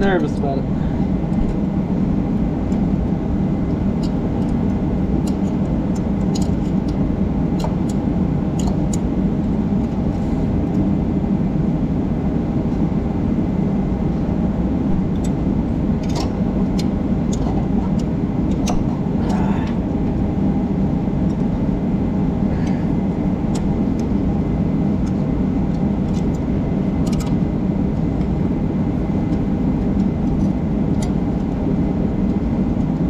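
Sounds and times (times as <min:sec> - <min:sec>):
machine droning: 0:00.0 - 0:33.0.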